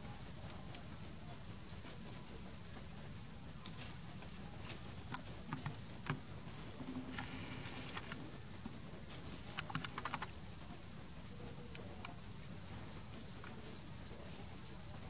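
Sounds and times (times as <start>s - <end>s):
monkeys scrambling over bark and leaves: 0.1s - 15.0s.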